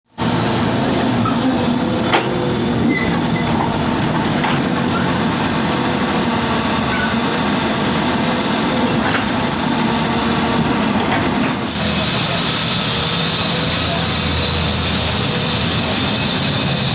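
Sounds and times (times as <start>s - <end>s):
excavator diesel engine running: 0.1s - 16.9s.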